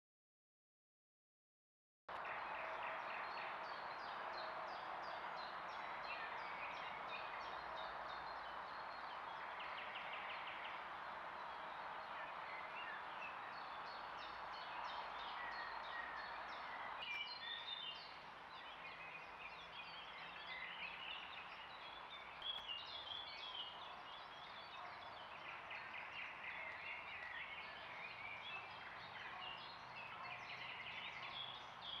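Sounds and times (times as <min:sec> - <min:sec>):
songbirds singing: 0:02.1 - 0:32.0.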